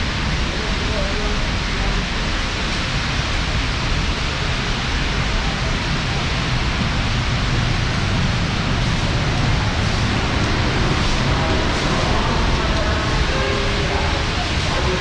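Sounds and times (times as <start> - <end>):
heavy rain pouring: 0.0 - 15.0
low rumble: 0.0 - 15.0.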